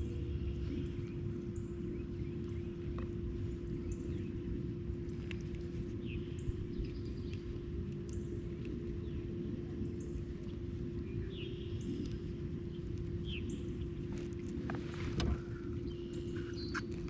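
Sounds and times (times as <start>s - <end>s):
low rumbling background noise: 0.0s - 17.0s
small birds chirping: 0.0s - 17.0s
steady low hum: 0.0s - 17.0s.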